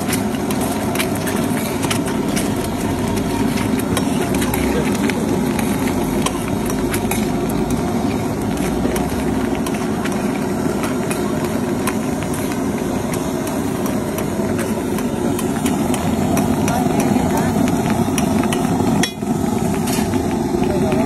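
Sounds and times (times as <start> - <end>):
eggs frying in foaming oil: 0.0 - 21.0
steady low rumble: 0.1 - 21.0.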